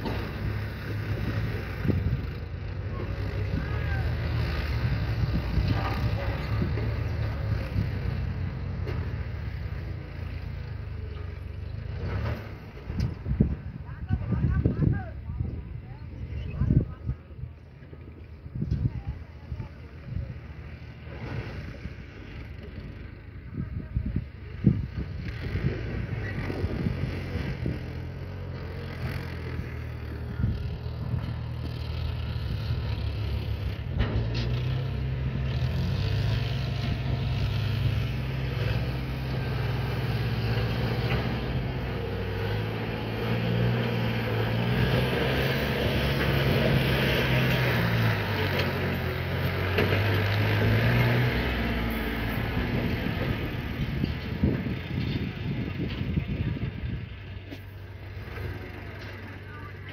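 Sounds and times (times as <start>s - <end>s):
diesel tractor engines under load: 0.0s - 59.9s.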